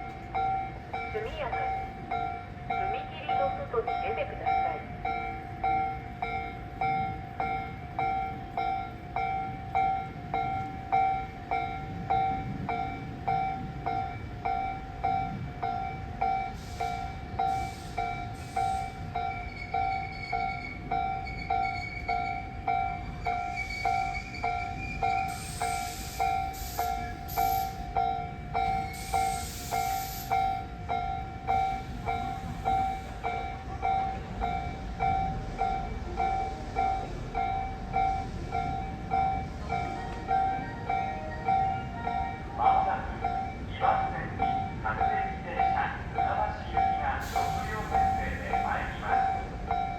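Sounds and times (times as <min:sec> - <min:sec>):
train rumble: 0:00.0 - 0:49.9.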